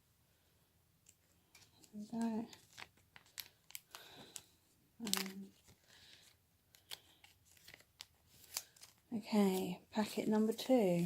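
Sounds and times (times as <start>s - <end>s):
plastic and foil packaging rustling: 1.1s - 11.0s.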